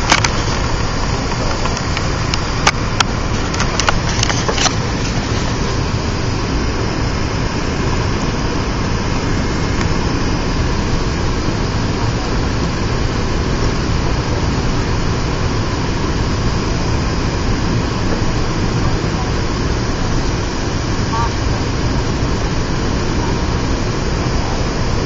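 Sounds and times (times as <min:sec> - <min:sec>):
airliner cabin engine rush: 0:00.0 - 0:25.0.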